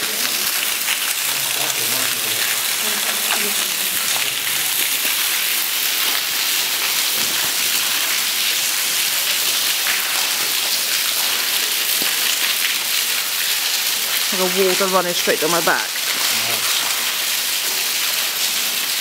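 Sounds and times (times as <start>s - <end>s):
water dripping and trickling: 0.0s - 19.0s.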